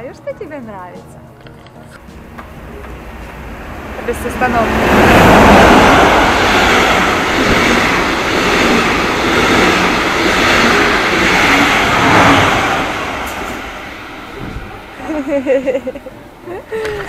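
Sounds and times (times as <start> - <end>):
train passing at speed: 1.9 - 17.0.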